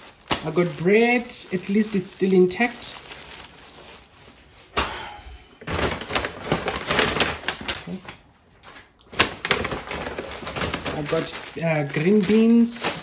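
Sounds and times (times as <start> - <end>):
paper bag crinkling and rustling: 0.0 - 4.8, 5.6 - 13.0.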